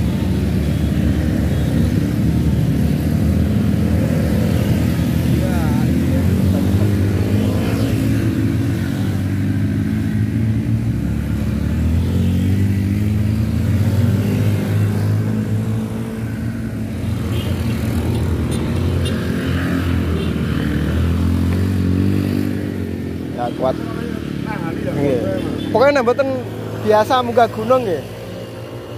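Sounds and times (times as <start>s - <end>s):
motorcycle engine at heavy throttle: 0.0s - 28.9s.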